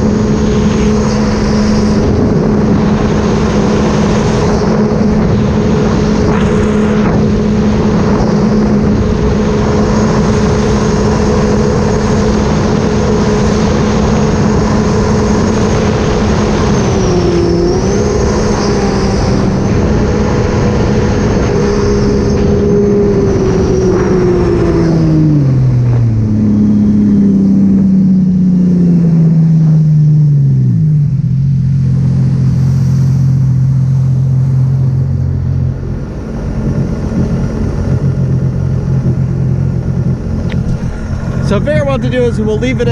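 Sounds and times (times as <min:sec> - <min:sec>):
jet ski engine cruising: 0:00.0 - 0:42.9.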